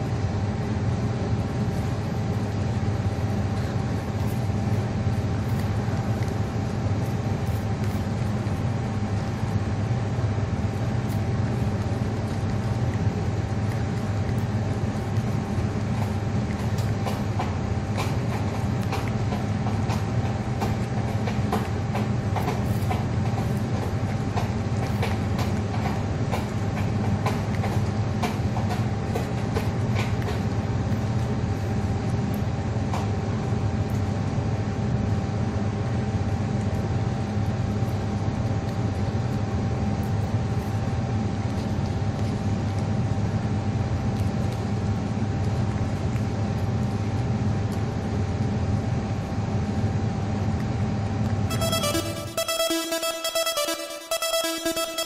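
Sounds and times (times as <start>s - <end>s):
cat chewing food: 0.0s - 51.5s
low machine rumble with hum: 0.0s - 51.6s.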